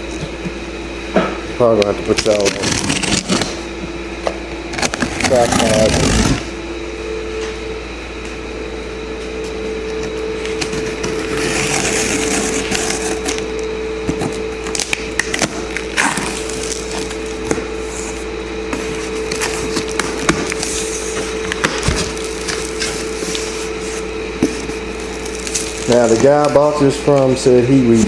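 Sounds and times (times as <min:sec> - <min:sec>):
steady background hum: 0:00.0 - 0:28.0
cardboard rustling and crackling: 0:01.8 - 0:03.9, 0:04.6 - 0:06.6, 0:09.3 - 0:28.0.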